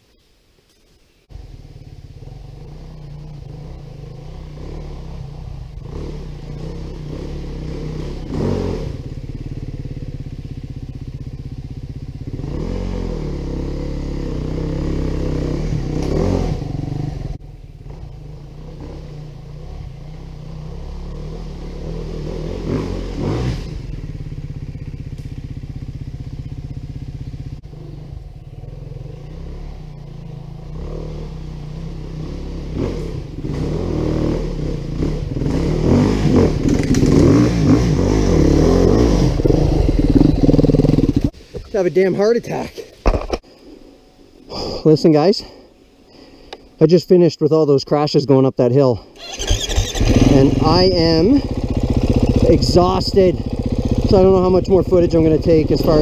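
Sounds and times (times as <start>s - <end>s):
dirt bike engine revving: 1.4s - 41.4s, 49.2s - 56.0s.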